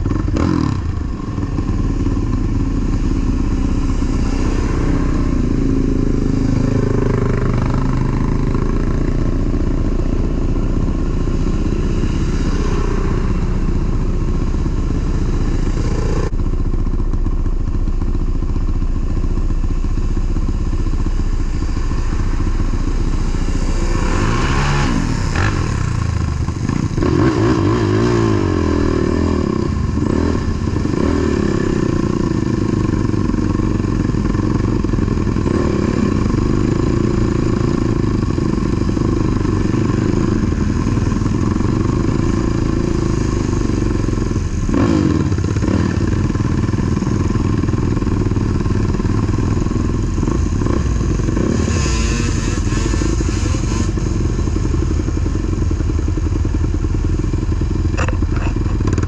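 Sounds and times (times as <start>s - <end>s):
atv engine revving: 0.0s - 17.6s, 18.6s - 59.0s.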